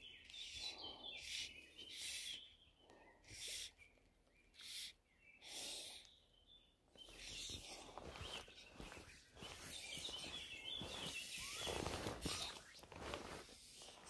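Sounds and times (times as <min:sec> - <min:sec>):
faint birds chirping: 0:00.0 - 0:14.0
outdoor background noise: 0:00.0 - 0:14.0.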